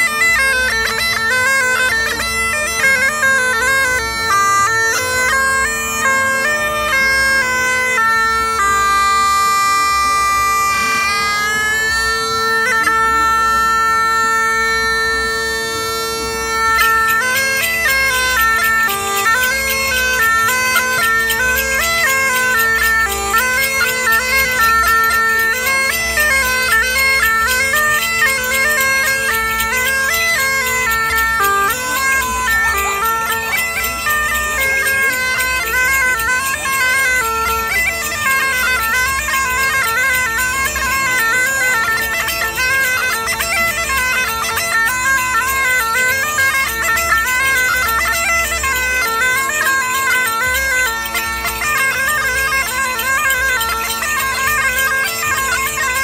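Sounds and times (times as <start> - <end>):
bagpipe drone and melody: 0.0 - 56.0.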